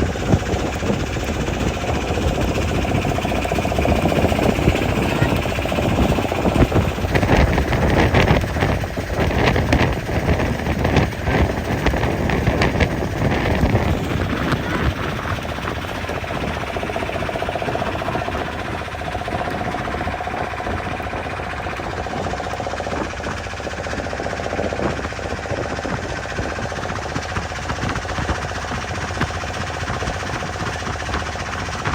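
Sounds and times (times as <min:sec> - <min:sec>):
boat engine running: 0:00.0 - 0:31.9.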